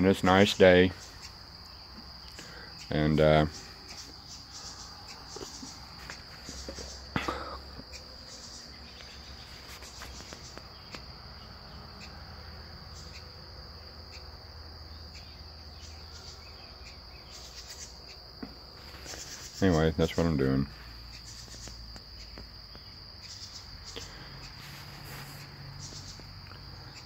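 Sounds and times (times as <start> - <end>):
insect trilling: 0.0 - 27.0.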